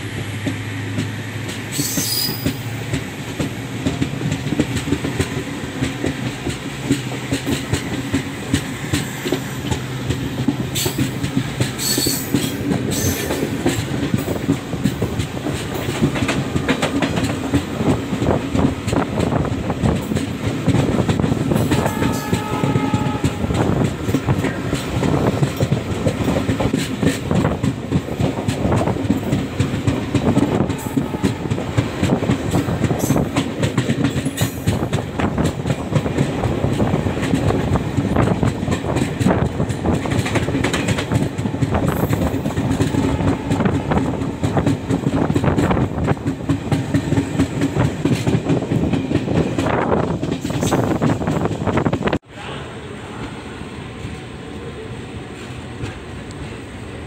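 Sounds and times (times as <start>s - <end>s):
train wheels clattering on rails: 0.0s - 52.2s.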